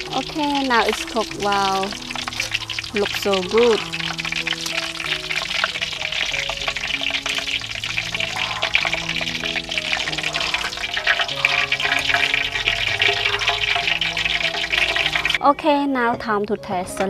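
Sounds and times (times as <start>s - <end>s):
oil sizzling and crackling: 0.0s - 15.4s
soft background music: 0.0s - 17.0s.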